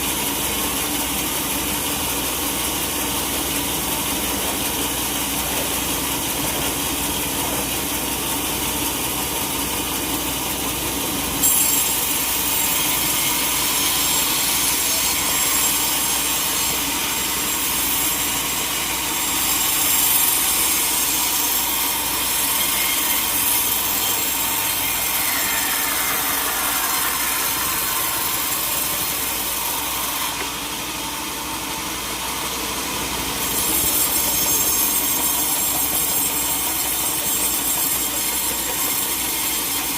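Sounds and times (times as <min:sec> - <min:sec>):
saw hissing through log: 0:00.0 - 0:39.9
sawmill machine noise: 0:00.0 - 0:39.9.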